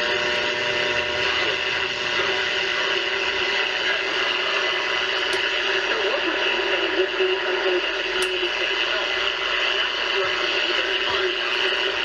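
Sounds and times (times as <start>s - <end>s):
shortwave radio static: 0.0s - 12.0s.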